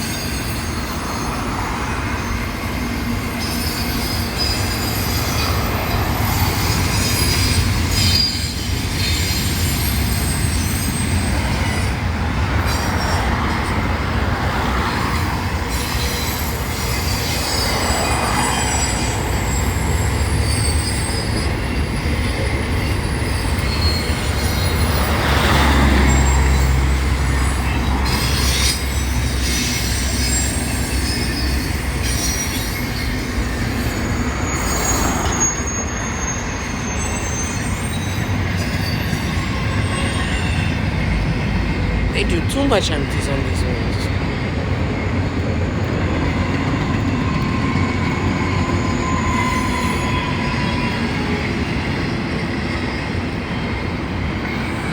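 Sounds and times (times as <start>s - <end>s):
steel wheels squealing on rails: 0.0s - 42.7s, 43.6s - 54.9s
freight train rumble and rattle: 0.0s - 54.9s.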